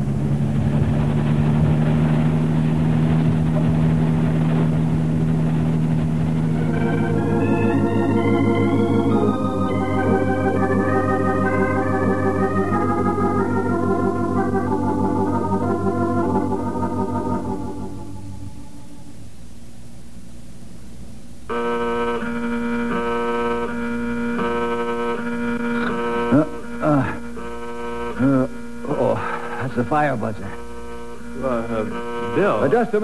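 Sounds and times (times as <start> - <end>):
car engine running: 0.0 - 19.2, 22.6 - 33.0
organ playing held chords: 0.0 - 19.5, 21.5 - 33.0.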